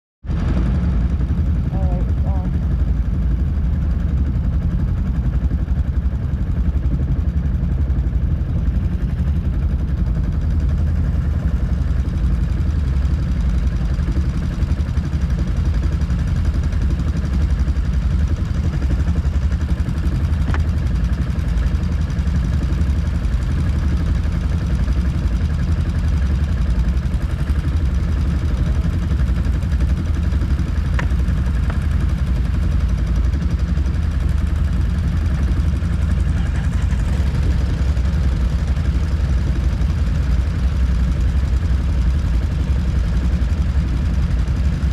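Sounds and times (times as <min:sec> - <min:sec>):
atv engine running: 0:00.3 - 0:44.9.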